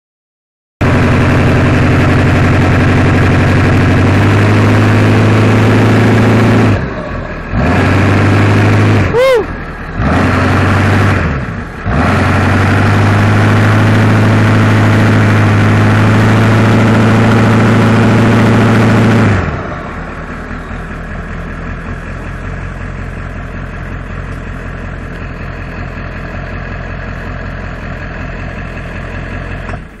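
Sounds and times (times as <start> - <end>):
diesel truck engine revving: 0.8 - 30.0.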